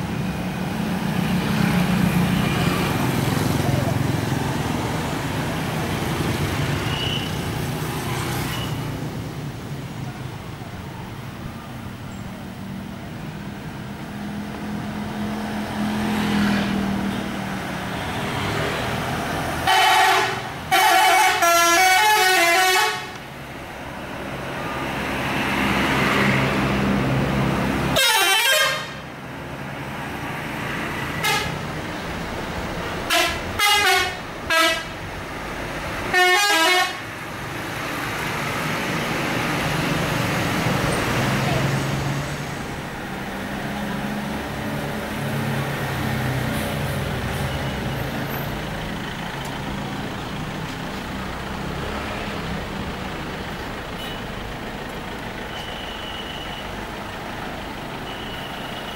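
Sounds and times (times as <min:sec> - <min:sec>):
bus engines and traffic rumble: 0:00.0 - 0:58.9.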